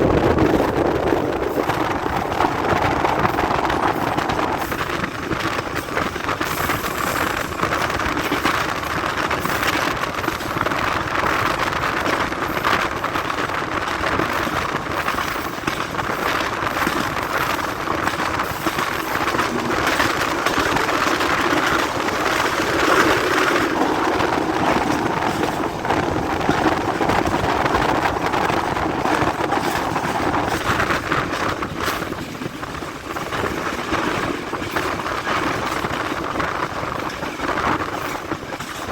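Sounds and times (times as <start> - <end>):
train rumbling and rattling: 0.0 - 38.9.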